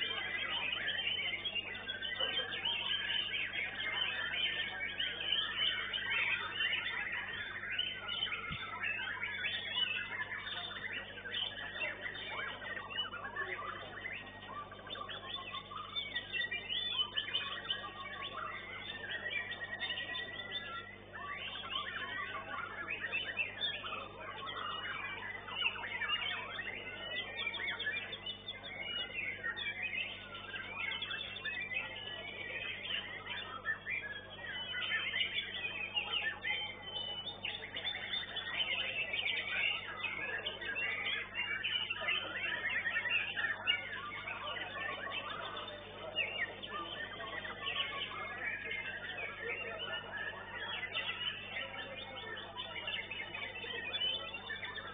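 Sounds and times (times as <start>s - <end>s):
birds singing rapid chirps: 0.0s - 54.9s.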